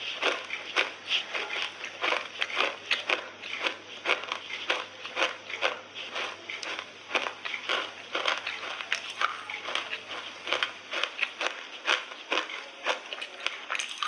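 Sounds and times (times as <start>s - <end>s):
person chewing crunchy clay: 0.0s - 14.0s.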